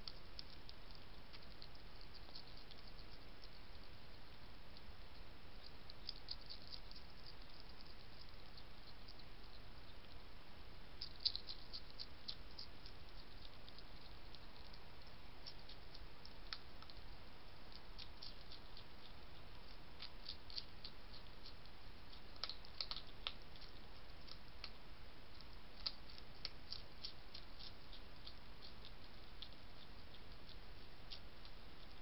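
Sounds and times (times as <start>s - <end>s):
hedgehog crunching dry food: 0.0s - 10.2s, 10.9s - 32.0s
steady background hiss: 0.0s - 32.0s.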